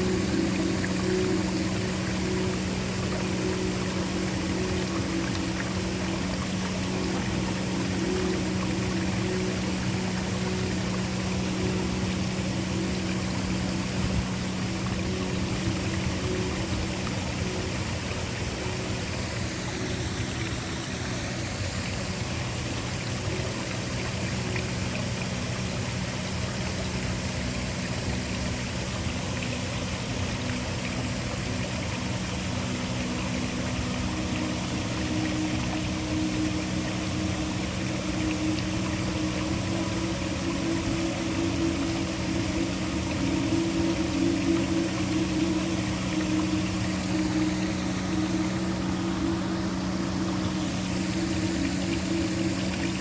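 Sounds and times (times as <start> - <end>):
low droning tones: 0.0 - 53.0
waterfall rushing: 0.0 - 53.0.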